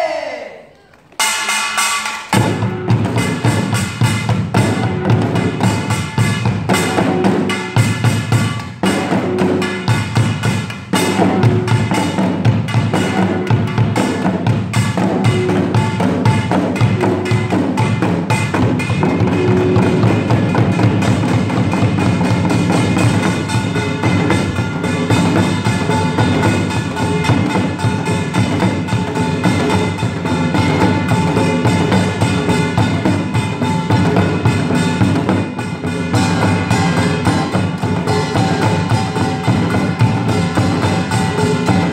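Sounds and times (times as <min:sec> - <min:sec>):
barrel drum: 0:01.2 - 0:41.9
hourglass drum: 0:02.4 - 0:41.9.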